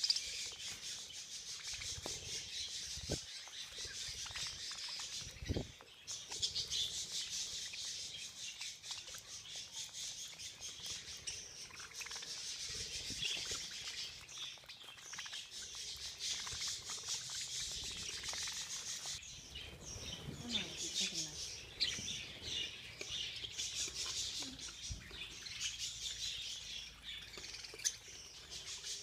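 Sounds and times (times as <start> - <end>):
budgerigars chattering and chirping: 0.0 - 29.0.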